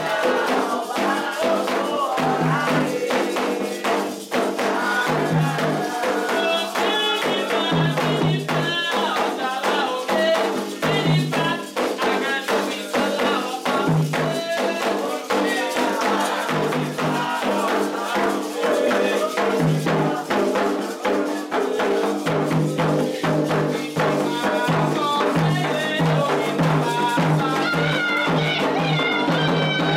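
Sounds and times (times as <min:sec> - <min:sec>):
hand drums beating: 0:00.0 - 0:29.9
voices singing a chant: 0:00.0 - 0:29.9.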